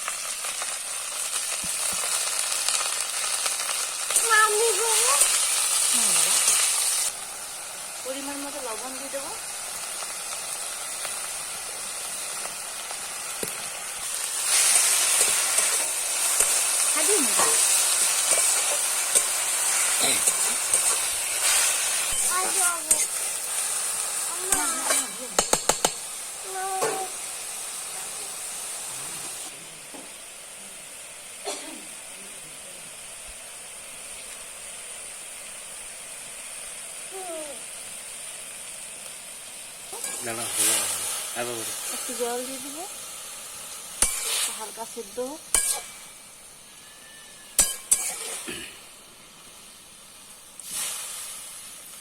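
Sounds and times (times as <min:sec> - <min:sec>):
greens sizzling in hot oil: 0:00.0 - 0:52.0.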